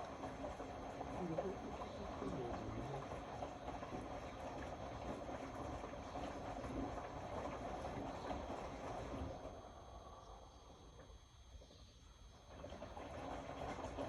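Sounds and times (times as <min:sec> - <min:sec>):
washing machine running: 0:00.0 - 0:11.1, 0:12.3 - 0:14.0.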